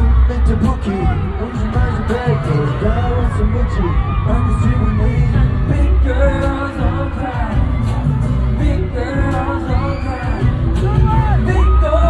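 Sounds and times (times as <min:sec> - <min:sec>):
pop song over sound system: 0:00.0 - 0:12.0.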